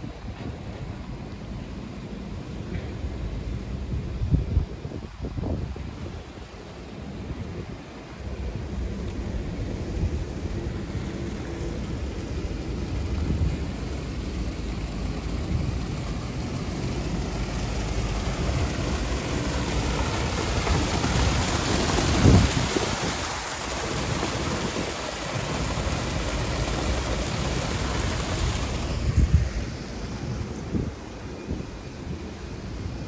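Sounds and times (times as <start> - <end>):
wind buffeting microphone: 2.8 - 33.0
fountain water splashing: 5.9 - 33.0.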